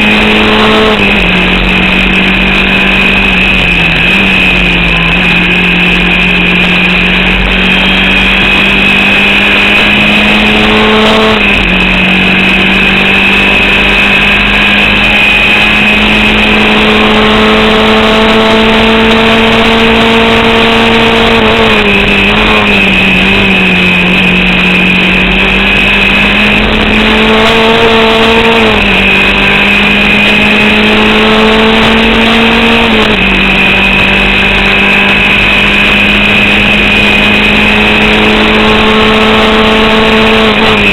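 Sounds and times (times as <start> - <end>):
racing car engine accelerating: 0.0 - 40.9
steady high whine: 0.0 - 40.9.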